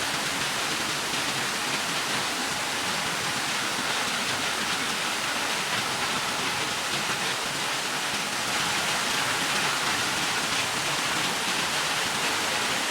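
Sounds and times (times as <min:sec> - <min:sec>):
water rushing and splashing: 0:00.0 - 0:12.9.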